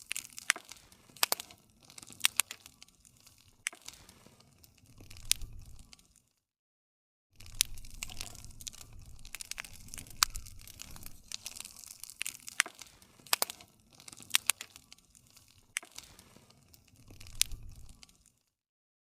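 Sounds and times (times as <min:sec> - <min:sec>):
campfire wood crackling: 0:00.0 - 0:06.4, 0:07.4 - 0:18.6
low rumble of flame: 0:00.3 - 0:06.2, 0:07.4 - 0:18.4.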